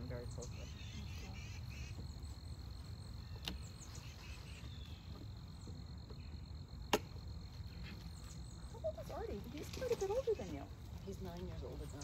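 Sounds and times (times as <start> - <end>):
high insect trill: 0.0 - 12.0.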